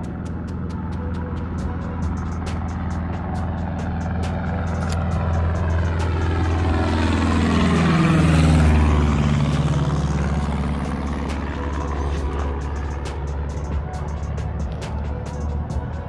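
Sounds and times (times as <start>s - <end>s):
propeller airplane passing overhead: 0.0s - 16.0s.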